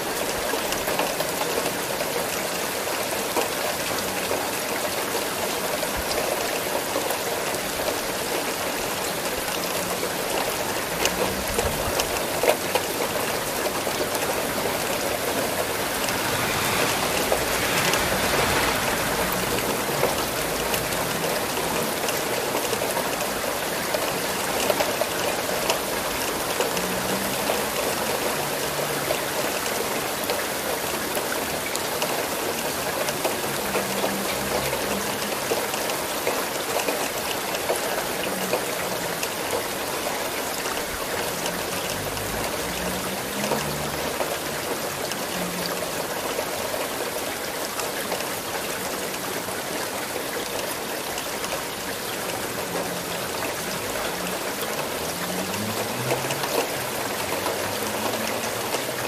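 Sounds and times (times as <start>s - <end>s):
individual raindrops: 0.0s - 59.0s
steady rain falling: 0.0s - 59.0s.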